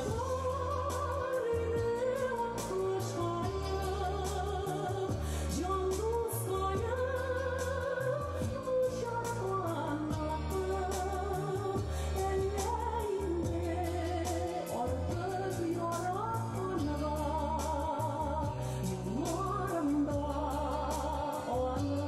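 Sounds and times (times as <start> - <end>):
instrumental accompaniment with beat: 0.0 - 22.0
woman singing into a microphone: 0.0 - 22.0.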